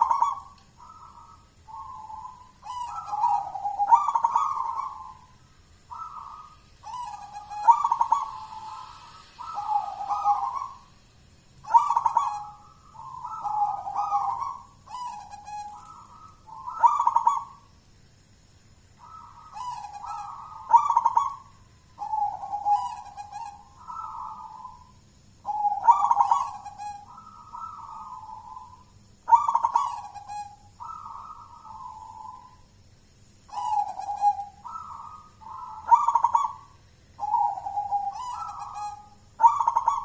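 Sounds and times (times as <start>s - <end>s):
dove cooing: 0.0s - 11.0s, 11.6s - 17.7s, 19.0s - 32.7s, 33.5s - 40.0s.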